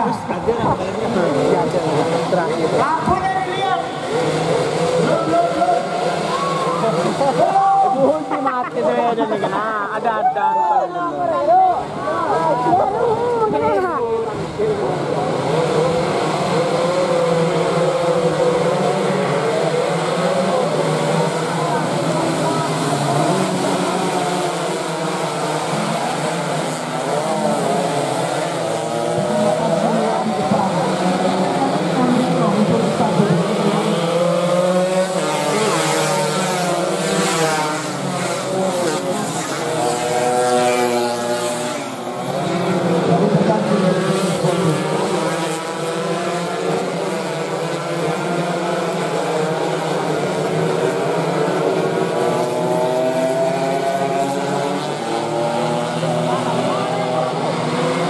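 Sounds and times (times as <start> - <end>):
racing motorcycles passing: 0.0 - 58.0.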